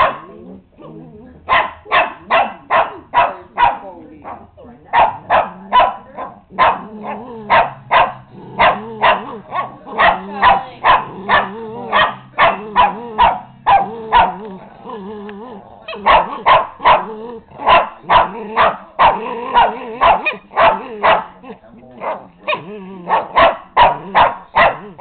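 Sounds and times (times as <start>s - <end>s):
small dog barking: 0.0s - 0.3s, 1.5s - 14.5s, 15.8s - 21.4s, 22.0s - 25.0s
dog growling: 0.0s - 25.0s.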